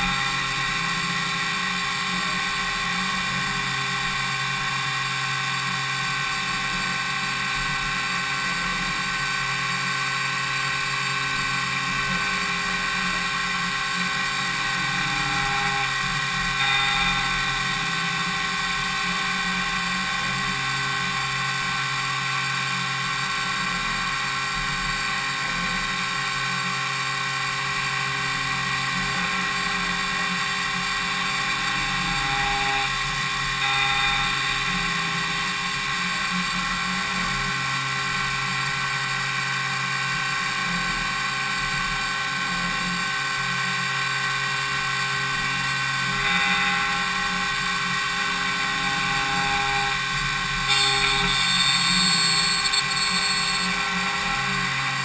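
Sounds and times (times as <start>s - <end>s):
spindle whine with cutting noise: 0.0s - 55.0s.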